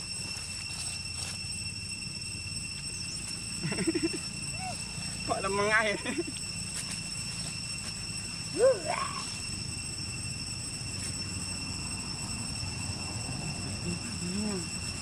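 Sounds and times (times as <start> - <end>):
high-pitched drone: 0.0 - 15.0.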